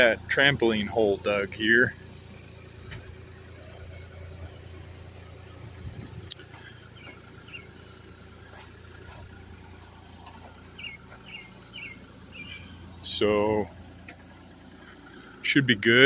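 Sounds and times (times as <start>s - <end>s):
crickets chirping: 0.6s - 16.0s.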